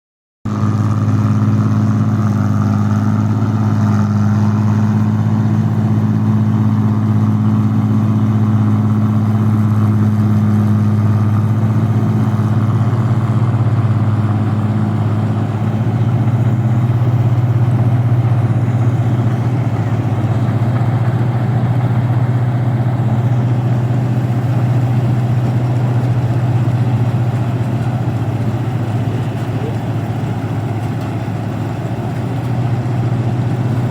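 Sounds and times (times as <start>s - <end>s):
combine harvester engine humming: 0.5s - 33.9s.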